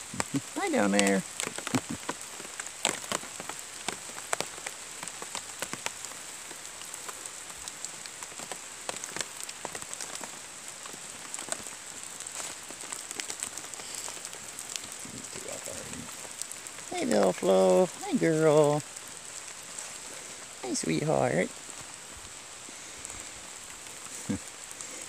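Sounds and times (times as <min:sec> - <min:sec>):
rain hissing: 0:00.0 - 0:25.0
raindrops tapping: 0:00.0 - 0:25.0.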